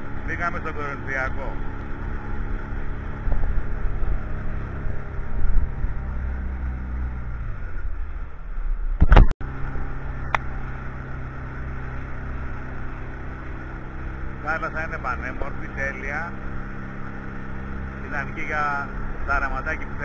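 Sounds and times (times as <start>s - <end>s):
water rushing along hull: 0.0s - 7.5s, 9.4s - 20.0s
boat engine running: 0.0s - 20.0s.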